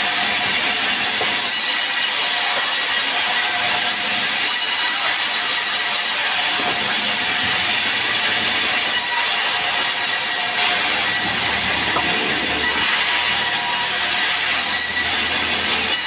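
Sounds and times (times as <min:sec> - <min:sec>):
sawmill saw cutting timber: 0:00.0 - 0:16.0.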